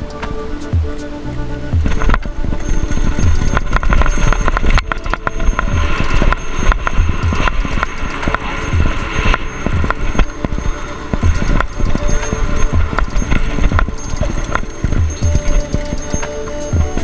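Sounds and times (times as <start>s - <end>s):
wind on microphone: 0.0s - 17.0s
bike rattling on gravel trail: 1.8s - 17.0s.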